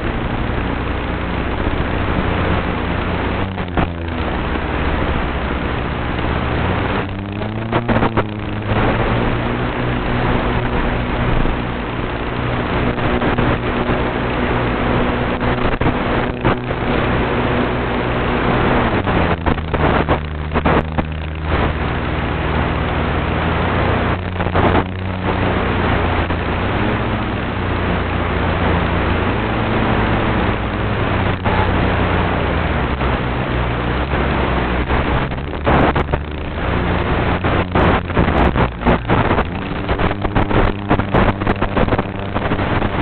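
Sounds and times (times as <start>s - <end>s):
model airplane motor and propeller: 0.0s - 43.0s.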